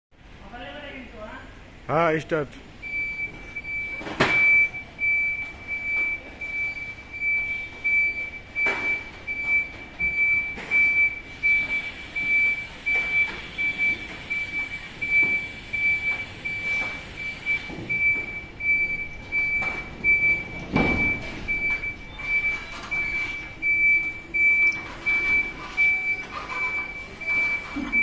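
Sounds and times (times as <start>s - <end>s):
forklift reversing alarm beeping: 2.7s - 28.0s.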